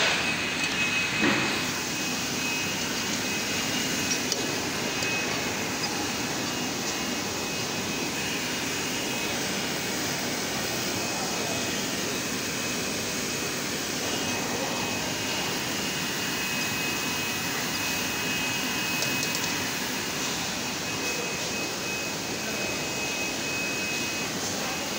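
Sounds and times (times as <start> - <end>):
bottling machinery and conveyor: 0.0 - 24.9.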